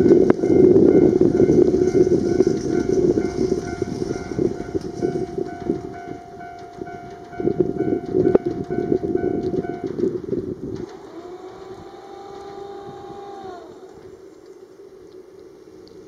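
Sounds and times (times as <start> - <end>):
faint pulsing tone: 0.0 - 14.9
train rolling rumble: 0.0 - 16.0.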